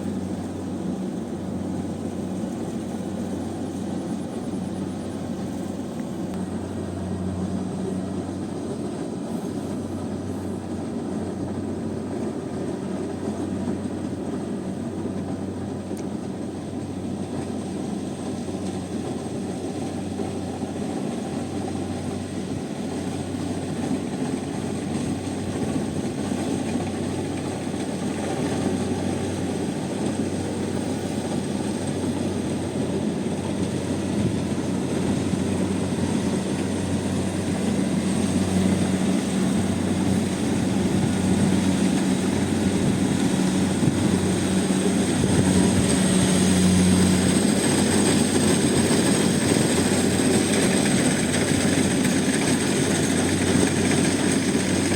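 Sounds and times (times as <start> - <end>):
harvester engine hum with whine: 0.0 - 54.9.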